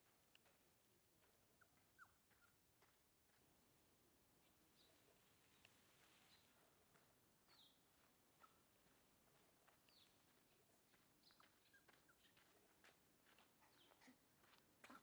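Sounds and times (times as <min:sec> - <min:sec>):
small birds chirping: 0:01.2 - 0:03.0, 0:04.4 - 0:15.0.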